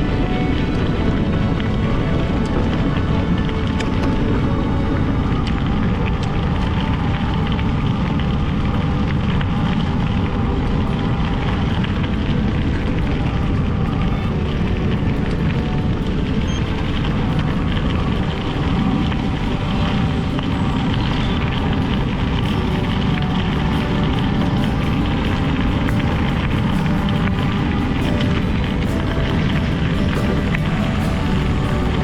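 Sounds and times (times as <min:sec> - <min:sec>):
bicycle tyres rolling off-road: 0:00.0 - 0:32.0.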